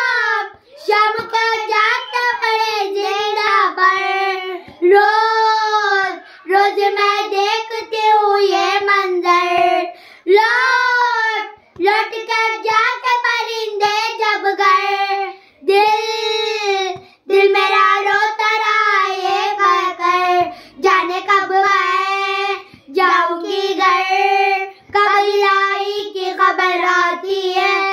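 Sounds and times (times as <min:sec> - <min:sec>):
girls singing a lament: 0:00.0 - 0:27.9.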